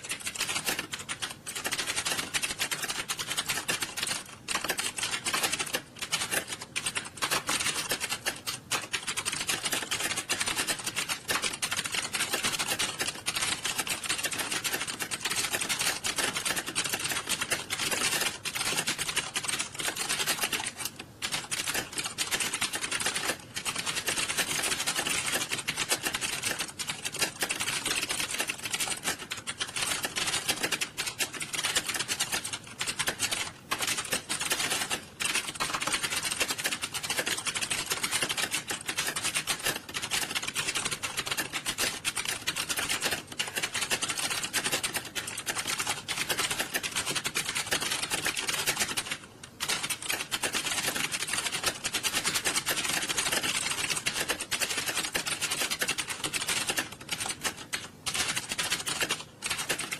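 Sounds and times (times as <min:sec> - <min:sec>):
keyboards typing clatter: 0:00.0 - 0:59.9.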